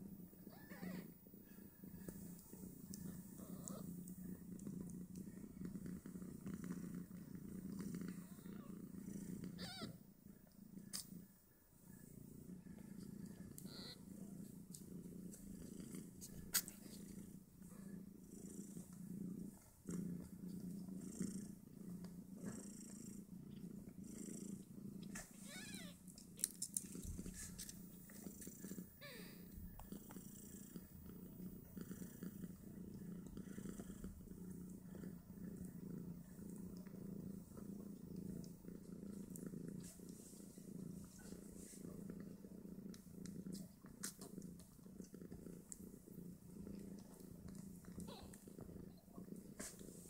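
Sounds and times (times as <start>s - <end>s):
cat purring: 0.0s - 50.0s.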